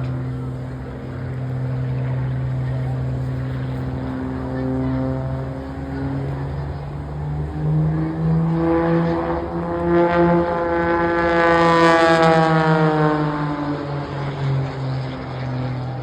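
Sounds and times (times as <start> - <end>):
aircraft engine drone: 0.0 - 16.0
steady low hum: 0.0 - 16.0.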